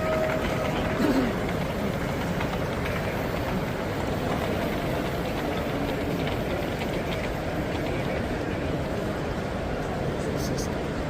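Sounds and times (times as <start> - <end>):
hubbub of busy hall: 0.0 - 11.0.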